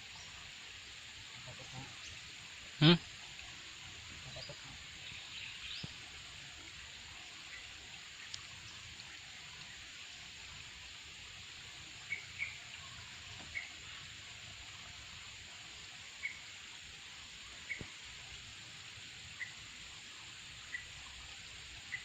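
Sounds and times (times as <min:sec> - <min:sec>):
high outdoor hiss: 0:00.0 - 0:22.0.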